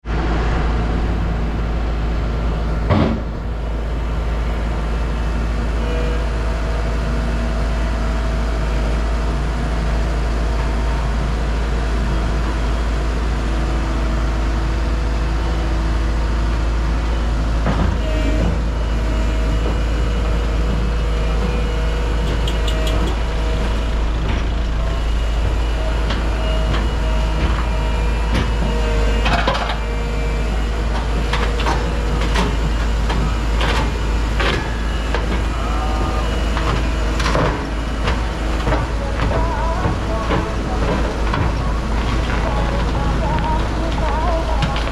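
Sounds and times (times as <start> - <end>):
diesel machinery rumbling: 0.0 - 44.9.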